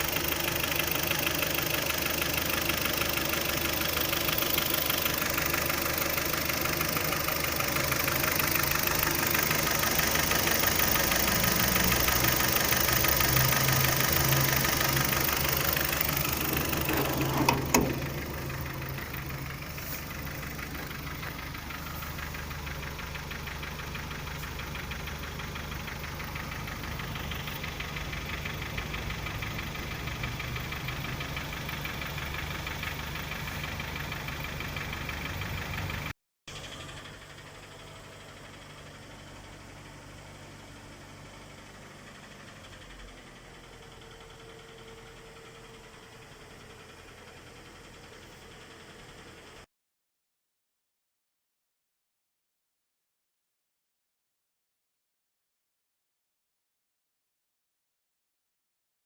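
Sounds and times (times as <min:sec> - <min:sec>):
car engine knocking: 0:00.0 - 0:49.6.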